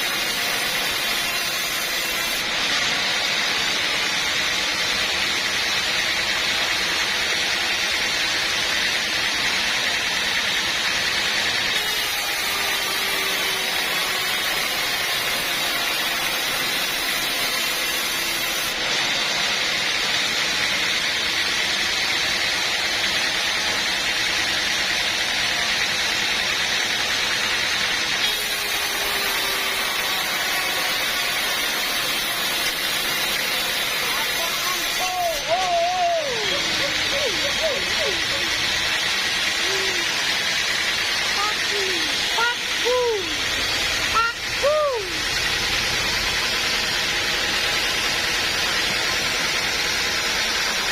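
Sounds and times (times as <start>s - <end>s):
sawmill saw running: 0.0s - 50.9s.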